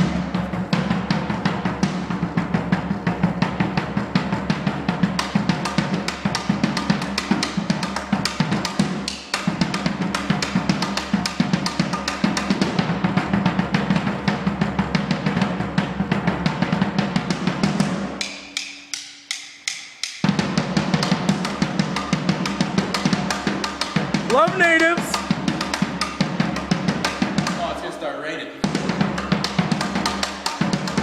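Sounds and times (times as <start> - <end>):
drum solo: 0.0 - 19.4, 20.2 - 31.0.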